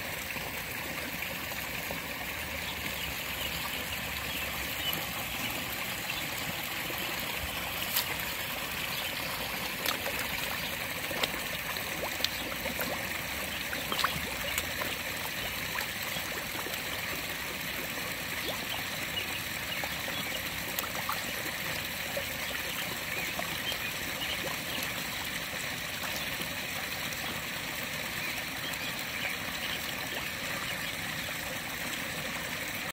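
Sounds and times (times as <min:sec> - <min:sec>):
trickling pond water: 0:00.0 - 0:32.9.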